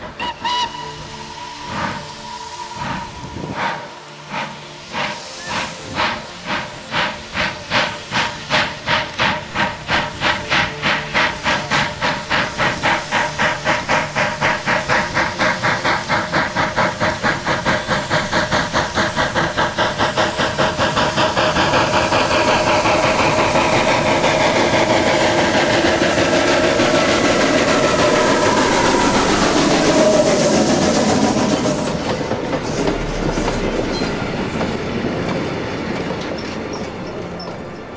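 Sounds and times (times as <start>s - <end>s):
steam locomotive exhaust chuffing: 0.0s - 37.9s.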